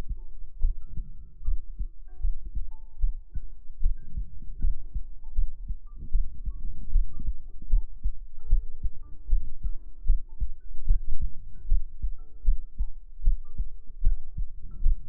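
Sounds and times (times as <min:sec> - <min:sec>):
gentle background music: 0:00.0 - 0:15.0
heartbeat thumps: 0:00.0 - 0:15.0.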